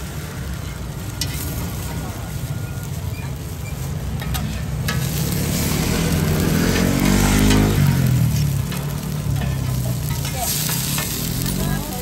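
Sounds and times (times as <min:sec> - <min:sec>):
buns sizzling in oil: 0:00.0 - 0:12.0.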